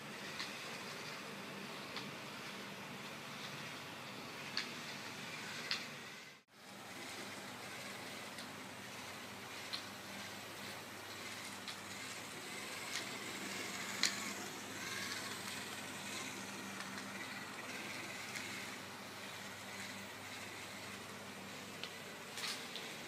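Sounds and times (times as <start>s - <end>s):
small gear motors whirring: 0.0s - 23.0s.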